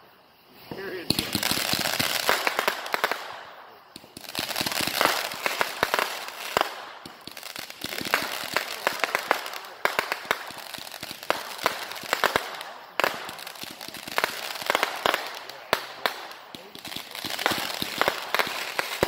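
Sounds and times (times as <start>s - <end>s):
fireworks bangs and pops: 0.6s - 19.0s
fireworks crackle: 0.6s - 19.0s.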